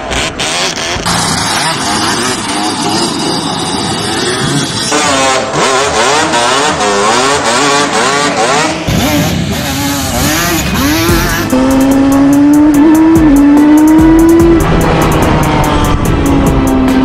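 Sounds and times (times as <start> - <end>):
quad engines revving: 0.0 - 17.0.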